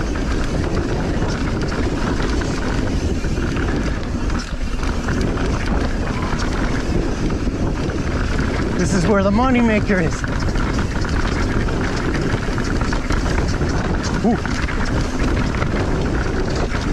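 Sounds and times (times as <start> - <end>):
bike knocks and rattles: 0.0 - 8.8, 9.4 - 16.9
bike tyres rolling on dirt: 0.0 - 16.9
wind buffeting microphone: 0.0 - 16.9.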